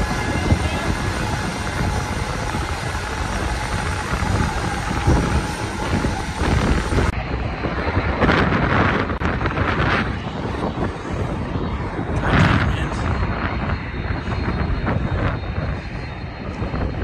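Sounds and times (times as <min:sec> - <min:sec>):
aircraft engine noise: 0:00.0 - 0:17.0
turboprop aircraft taxiing: 0:00.0 - 0:17.0
wind buffeting microphone: 0:00.0 - 0:17.0.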